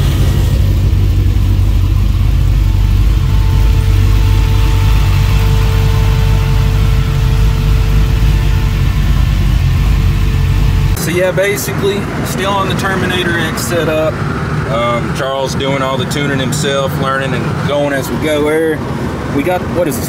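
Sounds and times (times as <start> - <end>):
faint steady whine: 0.0 - 19.2
engine idling: 0.0 - 20.0.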